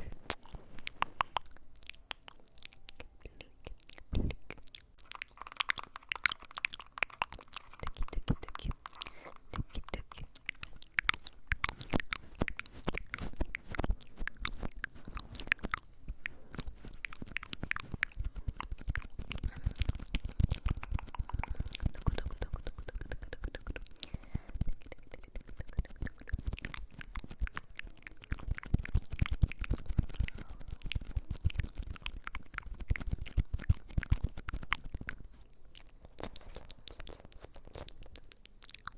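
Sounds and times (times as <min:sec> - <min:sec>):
crisp clicks and crunches: 0:00.2 - 0:38.9.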